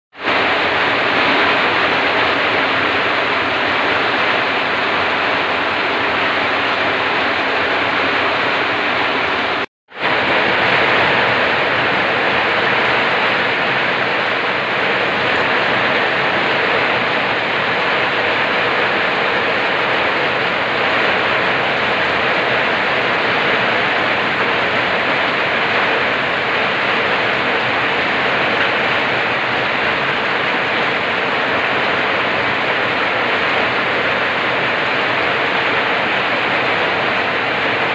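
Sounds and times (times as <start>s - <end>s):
steady downpour of rain: 0.2s - 37.9s.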